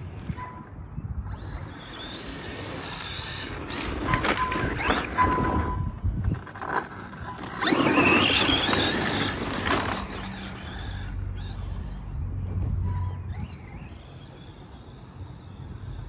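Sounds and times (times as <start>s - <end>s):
electric motor whining: 1.2s - 16.0s.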